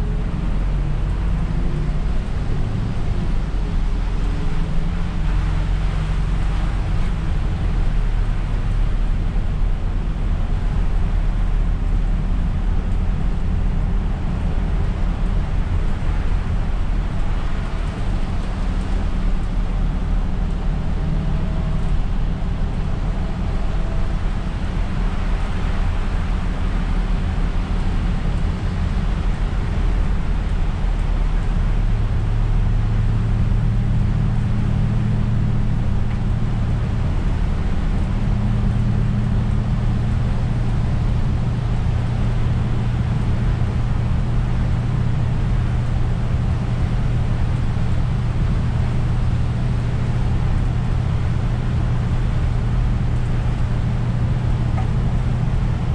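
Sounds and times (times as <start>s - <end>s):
bus engine hum: 0.0s - 55.9s
tyres hissing on wet road: 0.0s - 55.9s.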